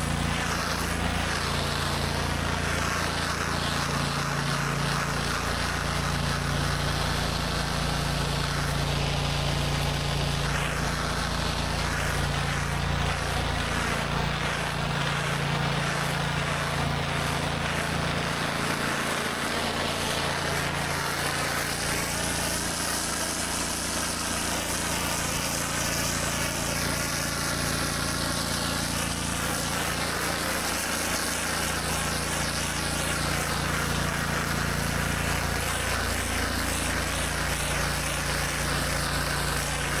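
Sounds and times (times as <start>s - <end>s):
high-pressure water spraying: 0.0s - 40.0s
pressure washer engine running: 0.0s - 40.0s.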